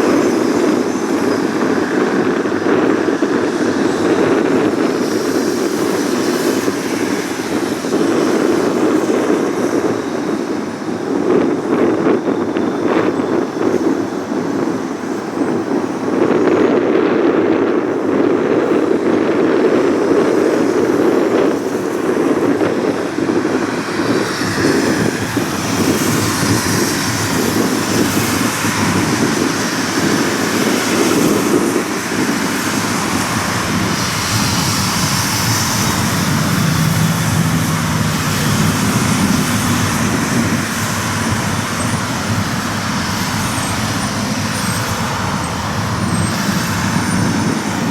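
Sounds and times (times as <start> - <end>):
high engine whine and hiss: 0.0 - 47.9
jet engines roaring: 0.0 - 47.9.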